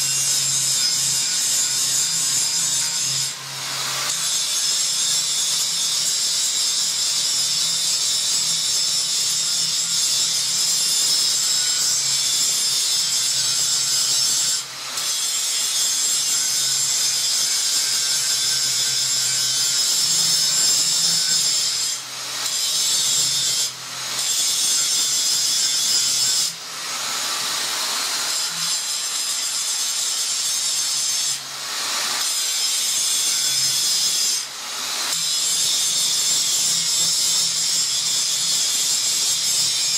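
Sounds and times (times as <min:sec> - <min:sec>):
angle grinder grinding steel: 0:00.0 - 0:39.9.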